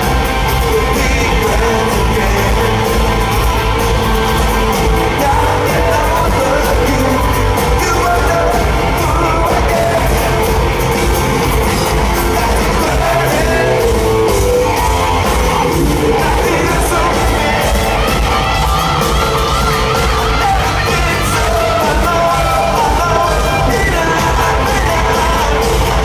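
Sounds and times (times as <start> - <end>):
drums: 0.0 - 26.0
electric guitar: 0.0 - 26.0
live rock band playing loudly: 0.0 - 26.0.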